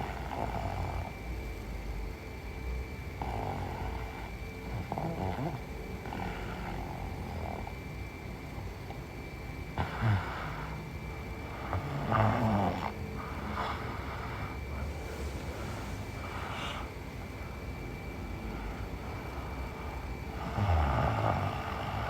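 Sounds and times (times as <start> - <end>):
woman snoring: 0.0 - 1.3, 3.1 - 9.0, 9.7 - 17.0, 17.7 - 22.0.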